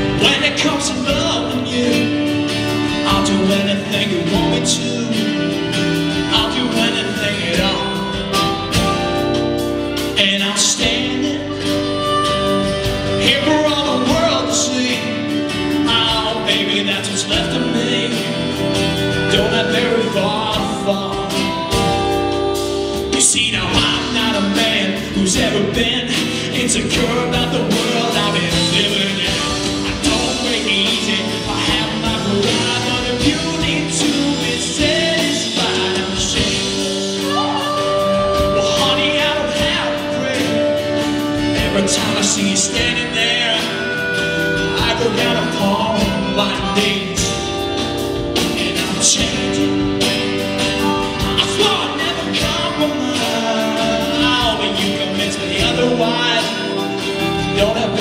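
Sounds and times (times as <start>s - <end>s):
live band playing a ballad: 0.0s - 58.0s
man singing: 0.0s - 58.0s.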